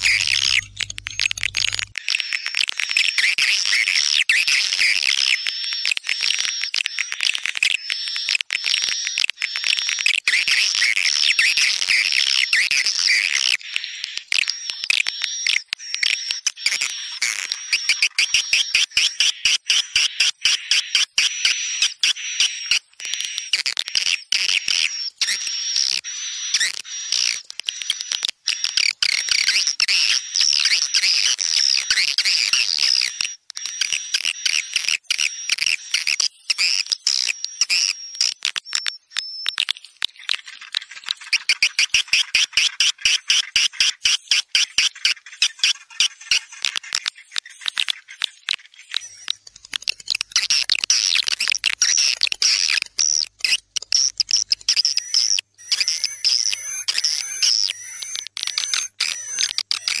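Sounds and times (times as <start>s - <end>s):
swiftlet chirping and clicking: 0.0s - 60.0s.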